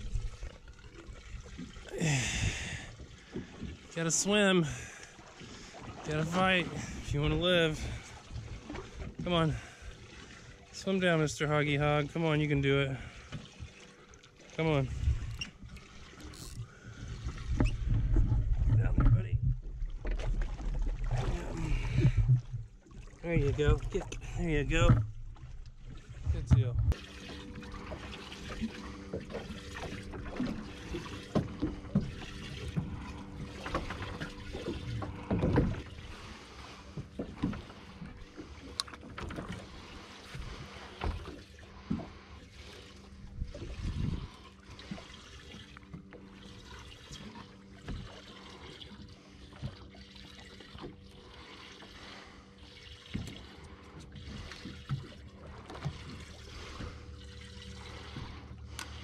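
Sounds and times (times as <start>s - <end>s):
knocks and splashes: 0.0s - 59.0s
low motor hum: 0.0s - 59.0s
water sloshing against boat hull: 0.0s - 59.0s.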